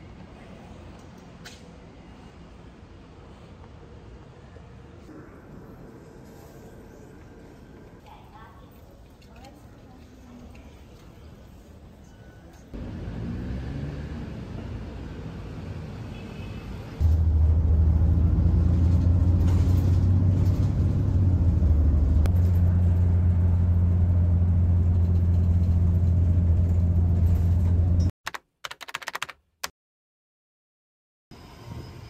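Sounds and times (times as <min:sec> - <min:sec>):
bus engine rumble: 0:00.0 - 0:28.1.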